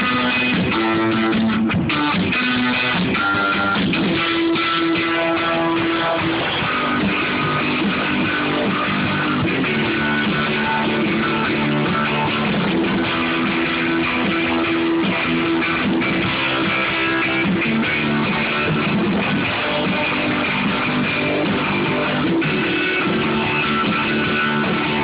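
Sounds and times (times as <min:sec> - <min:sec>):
rock band playing: 0:00.0 - 0:25.0
strummed guitar chords: 0:00.0 - 0:25.0.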